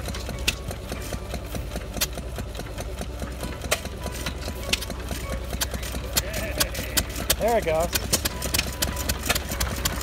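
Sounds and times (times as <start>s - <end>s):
gas engines clattering: 0.0s - 10.0s.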